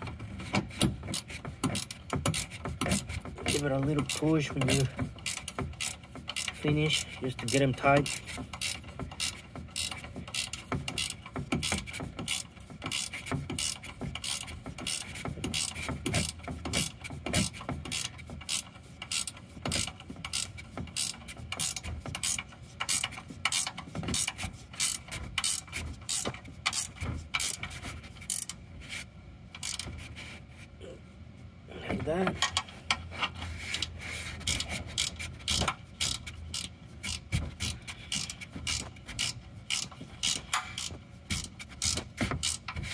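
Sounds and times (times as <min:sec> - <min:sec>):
ratchet wrench clicking: 0:01.1 - 0:28.6, 0:29.5 - 0:29.9, 0:32.4 - 0:42.8.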